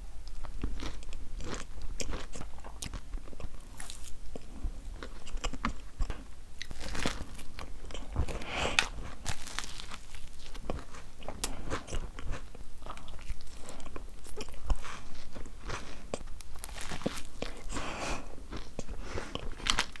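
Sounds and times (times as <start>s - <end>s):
person chewing crisp food: 0.2s - 20.0s.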